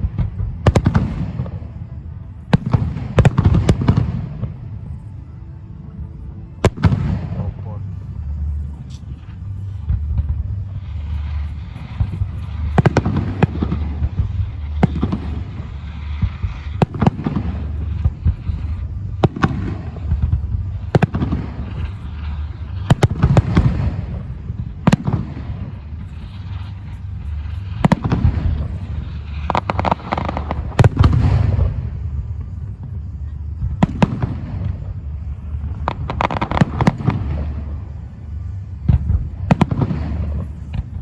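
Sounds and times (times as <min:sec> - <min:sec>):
fireworks bursting in sharp bangs: 0:00.0 - 0:05.0, 0:06.6 - 0:08.0, 0:08.9 - 0:41.0
continuous low rumble: 0:00.0 - 0:41.0.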